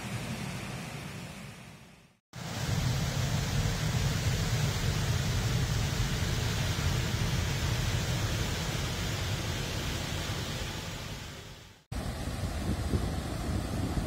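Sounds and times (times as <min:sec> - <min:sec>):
wind: 0:00.0 - 0:14.0
ocean surf: 0:02.4 - 0:14.0.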